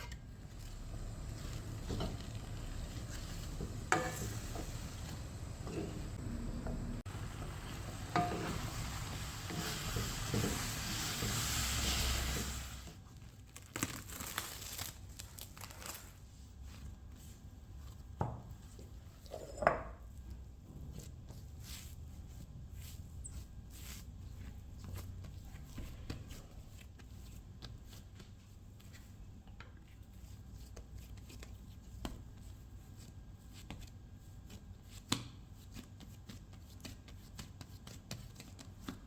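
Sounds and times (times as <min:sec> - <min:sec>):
rustling in kitchen: 0:00.0 - 0:39.0.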